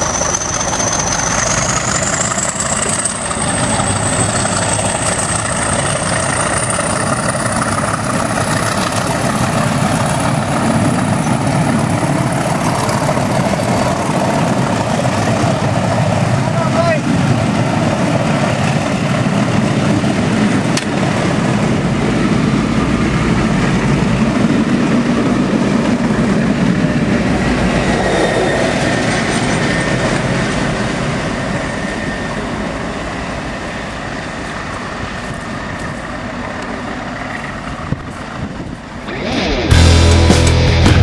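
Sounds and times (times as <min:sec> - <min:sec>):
train wheels rumbling and rattling: 0:00.0 - 0:41.0.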